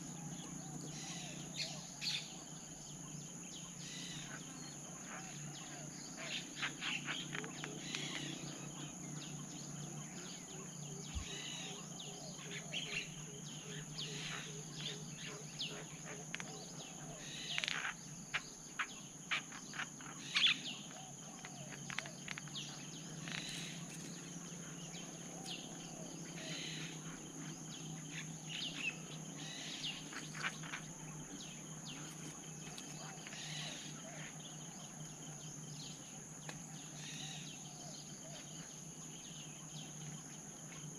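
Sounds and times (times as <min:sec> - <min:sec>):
high insect drone: 0:00.0 - 0:40.9
small birds chirping: 0:00.0 - 0:40.9.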